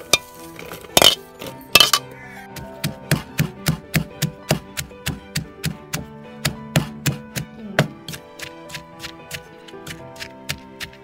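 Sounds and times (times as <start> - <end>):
pestle pounding in clay mortar: 1.8 - 11.0.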